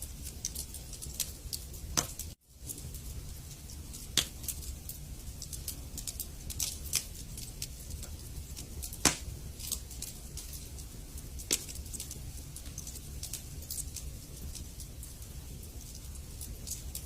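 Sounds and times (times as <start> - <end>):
fire popping: 0.0 - 17.0
low rumble of flames: 0.0 - 17.0.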